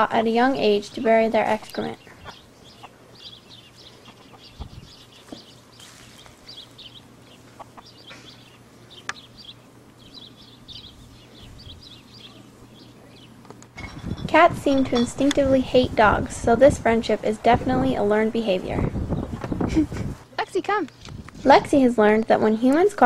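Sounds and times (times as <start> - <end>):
birds chirping: 0.0 - 21.2.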